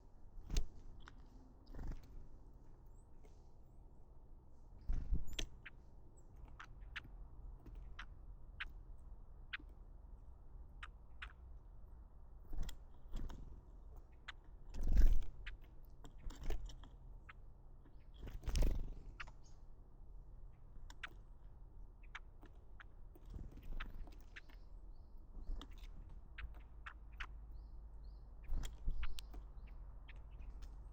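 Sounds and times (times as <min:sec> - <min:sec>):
small birds ticking: 0:00.0 - 0:30.9.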